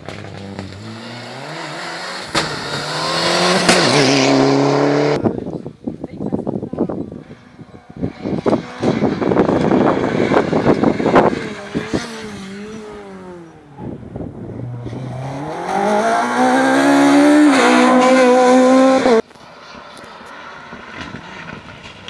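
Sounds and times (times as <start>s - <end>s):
faint outdoor noise: 0.0s - 22.0s
rally car engine at full throttle: 0.0s - 22.0s.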